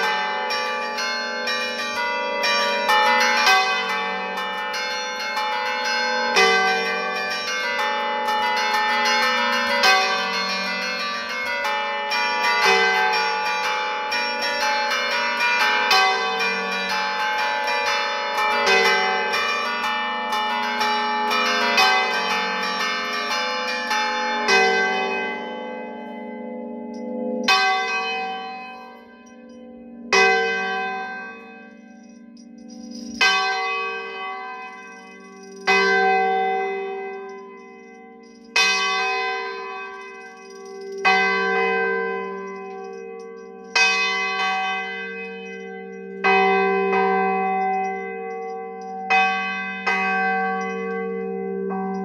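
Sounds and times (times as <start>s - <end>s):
church bells pealing: 0.0s - 52.0s.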